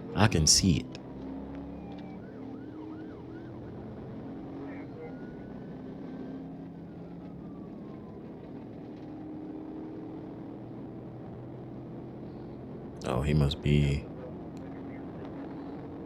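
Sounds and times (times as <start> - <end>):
car engine and road noise: 0.0 - 13.2.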